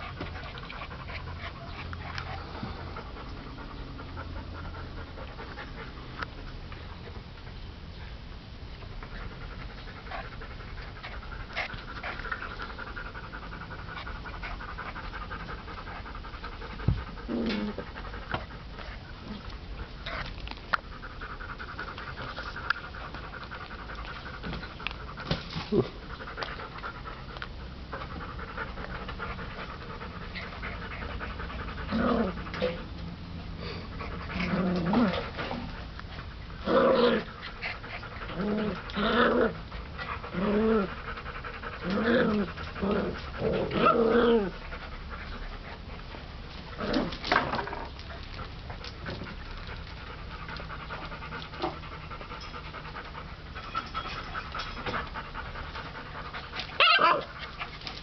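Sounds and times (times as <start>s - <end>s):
puppy vocal sounds: 0.0s - 6.8s, 9.0s - 58.0s
puppies panting: 0.0s - 43.8s, 44.4s - 58.0s.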